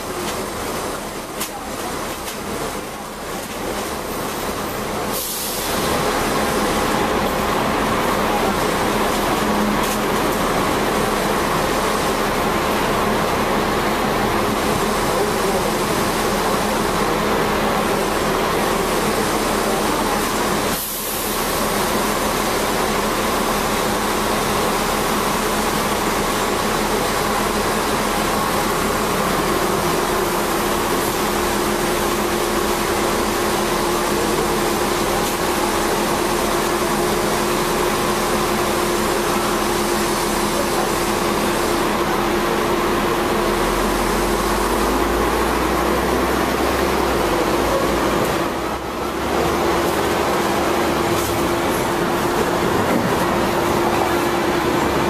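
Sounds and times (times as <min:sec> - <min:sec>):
electric tram rumbling on rails: 0:00.0 - 0:55.0.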